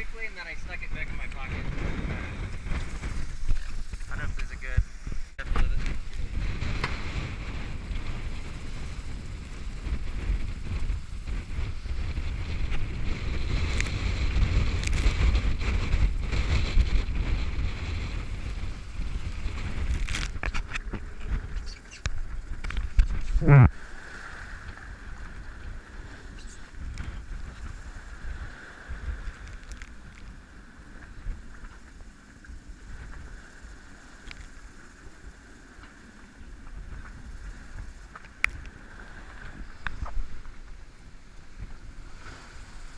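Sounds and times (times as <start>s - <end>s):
water noise: 0.0s - 42.9s
wind buffeting microphone: 0.0s - 42.9s.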